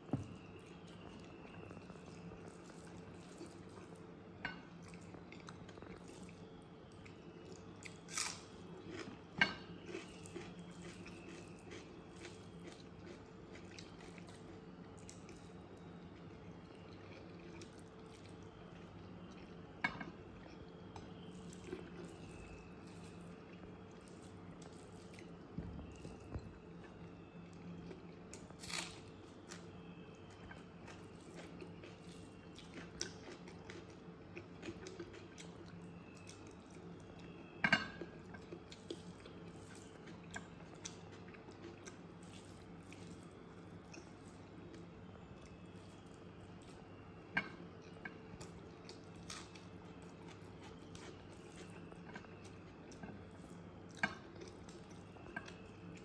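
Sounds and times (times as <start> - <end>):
steady low hum: 0.0 - 56.0
soft chewing: 0.1 - 56.0.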